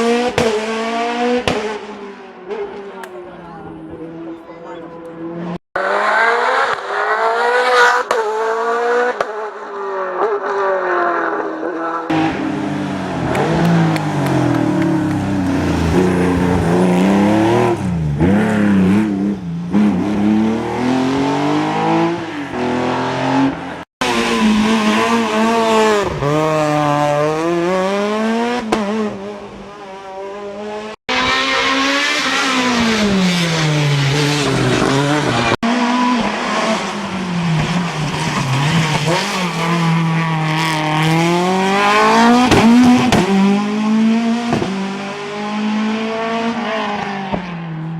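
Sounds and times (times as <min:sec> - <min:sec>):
race car engines at full throttle: 0:00.0 - 0:47.9.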